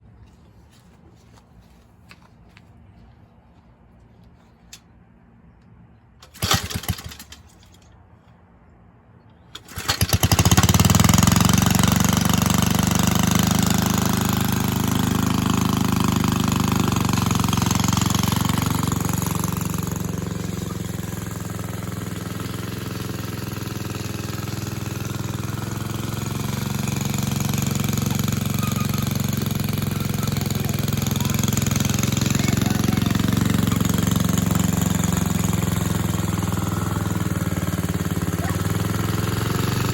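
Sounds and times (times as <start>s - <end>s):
lawn mower engine running: 6.1s - 8.5s, 9.3s - 39.9s.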